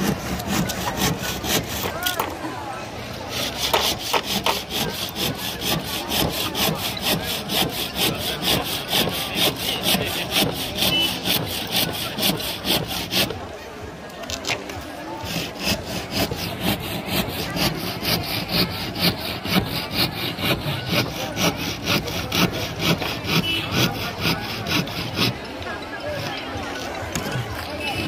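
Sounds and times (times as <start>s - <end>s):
fast rasping strokes: 0.0s - 2.3s, 3.2s - 13.4s, 15.2s - 25.5s
crowd chatter: 0.0s - 28.0s.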